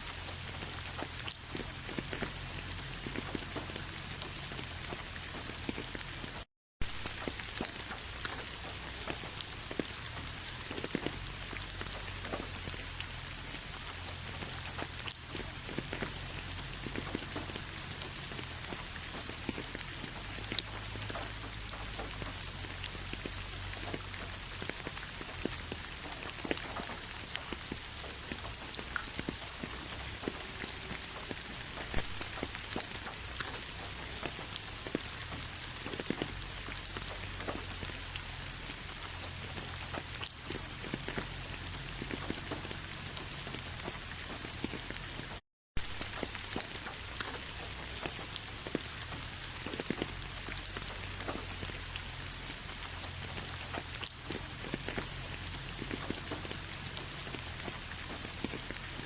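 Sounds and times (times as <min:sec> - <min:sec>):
rain drops tapping on a surface: 0:00.0 - 0:59.0.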